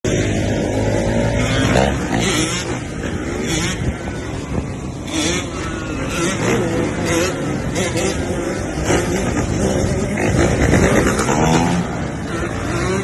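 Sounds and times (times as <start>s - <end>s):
motorcycle engine revving: 0.1s - 13.0s.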